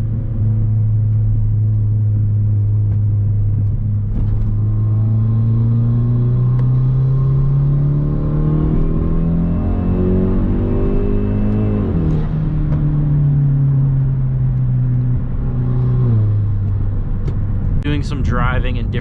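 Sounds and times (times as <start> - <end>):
turbocharged car engine accelerating: 0.0 - 19.0.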